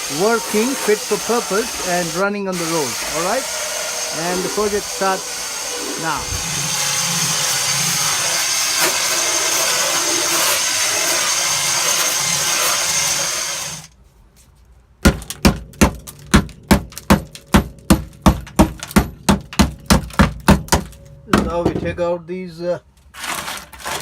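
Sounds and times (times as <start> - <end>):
hand tools chipping tar mat: 0.0 - 13.9, 15.0 - 21.6, 23.2 - 24.0.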